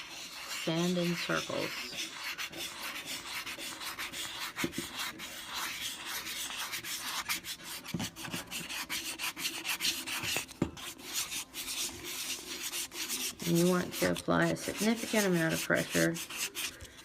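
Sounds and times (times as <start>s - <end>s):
sandpaper rubbing: 0.0s - 17.0s.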